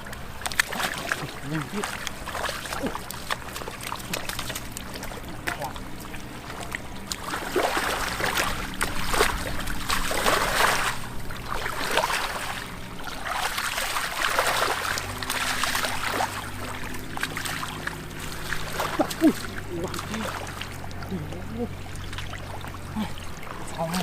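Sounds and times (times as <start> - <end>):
muddy water sloshing and splashing: 0.0 - 24.0.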